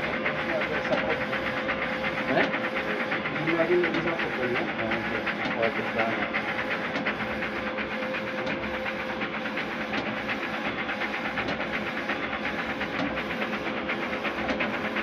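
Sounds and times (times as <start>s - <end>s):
printer carriage whirring: 0.0s - 15.0s.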